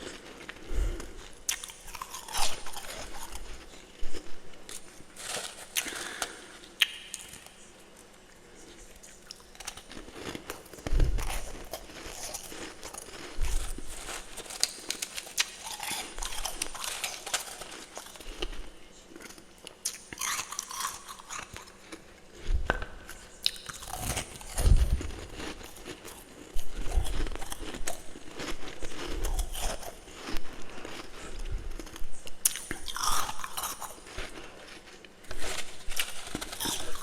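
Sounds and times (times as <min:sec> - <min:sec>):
chewing frost crunching: 0:00.0 - 0:37.0.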